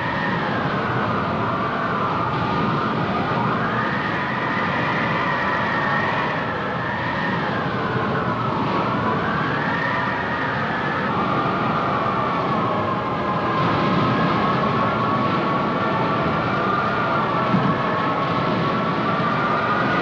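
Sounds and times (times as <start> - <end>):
siren wailing: 0.0 - 20.0
steady rushing noise: 0.0 - 20.0.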